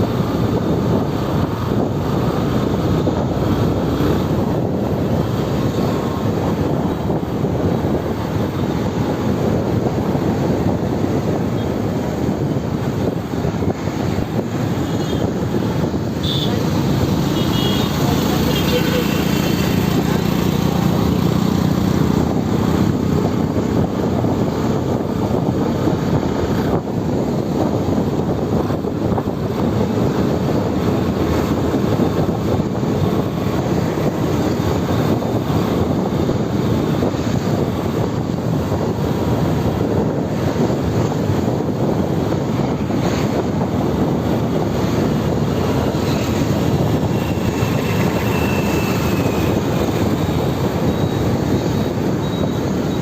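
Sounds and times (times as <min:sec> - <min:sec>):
traffic noise: 0:00.0 - 0:53.0
wind buffeting microphone: 0:00.0 - 0:53.0.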